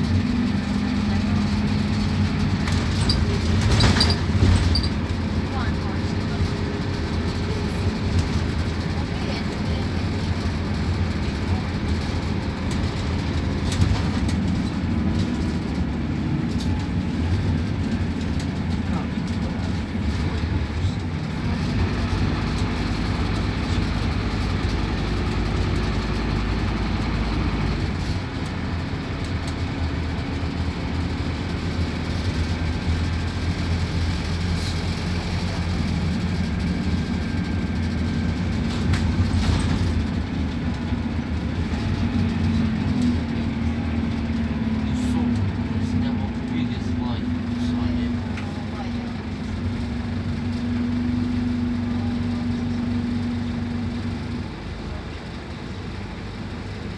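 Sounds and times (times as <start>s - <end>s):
bus diesel engine droning: 0.0s - 56.9s
road and drivetrain noise: 0.0s - 56.9s.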